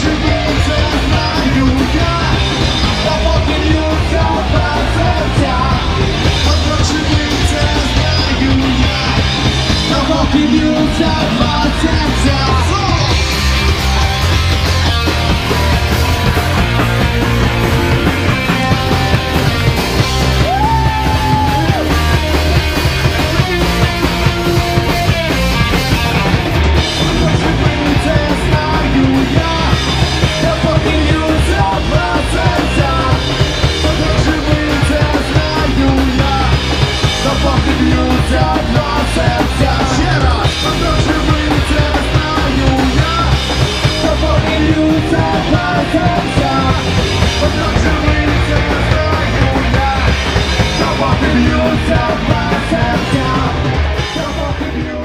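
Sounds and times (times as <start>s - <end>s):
drums: 0.0s - 55.0s
electric guitar: 0.0s - 55.0s
punk rock band playing: 0.0s - 55.0s.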